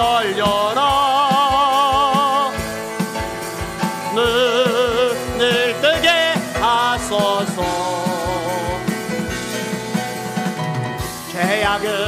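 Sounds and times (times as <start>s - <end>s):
person singing with vibrato: 0.0s - 10.2s, 11.1s - 12.0s
band playing: 0.0s - 12.0s
steady drum beat: 0.0s - 12.0s.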